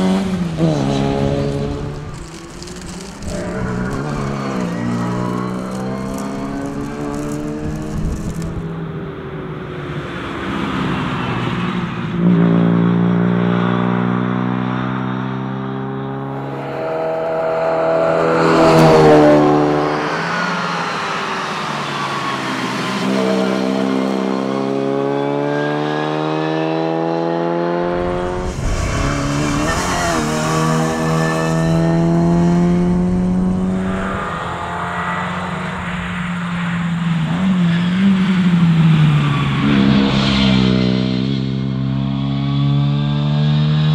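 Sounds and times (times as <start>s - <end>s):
car engine revving: 0.0s - 8.8s, 12.0s - 43.9s.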